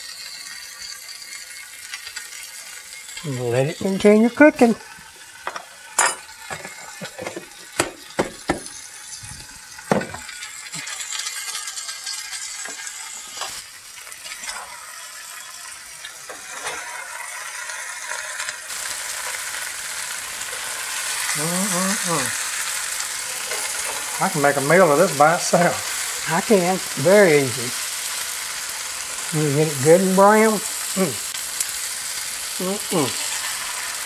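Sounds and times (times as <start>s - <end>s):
vegetables sizzling in skillet: 0.0s - 34.0s.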